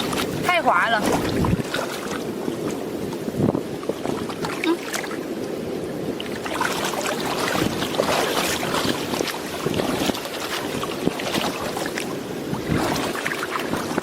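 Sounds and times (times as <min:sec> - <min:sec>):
shallow water splashing: 0:00.0 - 0:14.0.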